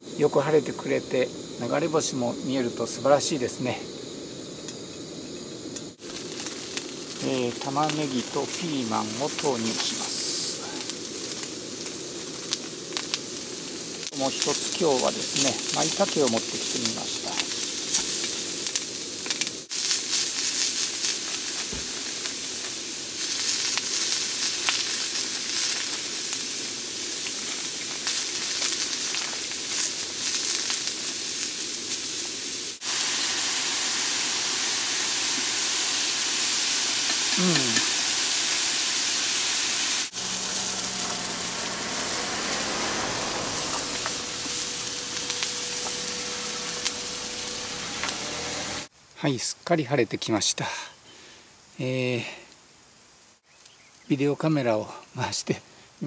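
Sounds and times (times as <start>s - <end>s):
food sizzling in frying pan: 4.0s - 48.9s.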